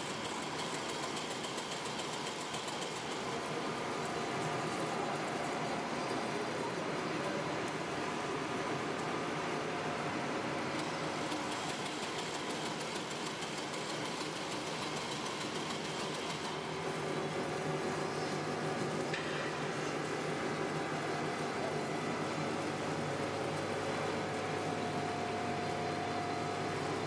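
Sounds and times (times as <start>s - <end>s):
machine motors humming and whirring: 0.0s - 27.0s.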